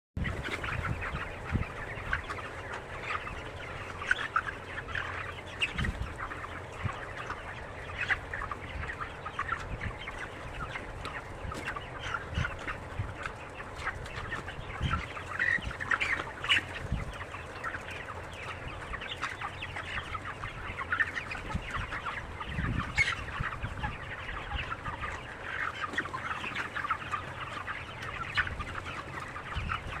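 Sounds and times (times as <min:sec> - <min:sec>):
chickens clucking and chirping: 0:00.2 - 0:30.0.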